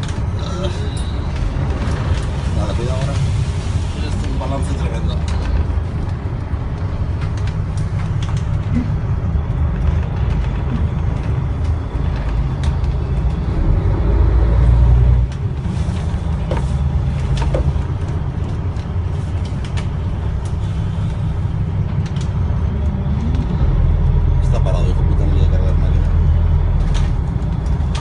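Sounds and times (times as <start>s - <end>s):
boat engines rumbling: 0.0s - 28.0s.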